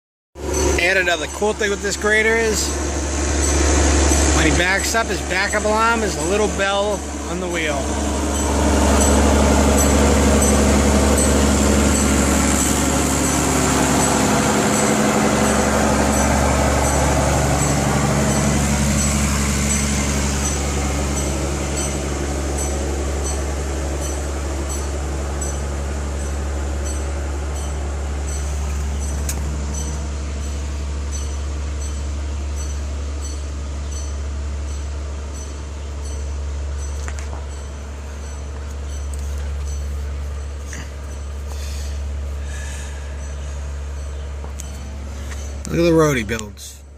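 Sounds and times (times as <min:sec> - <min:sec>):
backup bell dinging: 0:00.4 - 0:46.2
diesel engine running: 0:00.4 - 0:46.9.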